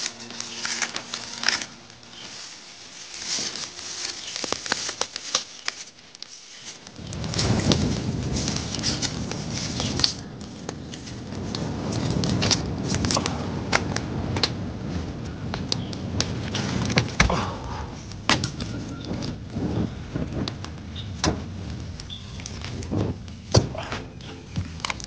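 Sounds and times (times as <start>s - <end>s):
fire crackling and popping: 0.0s - 25.0s
fire flames rushing: 0.0s - 25.0s.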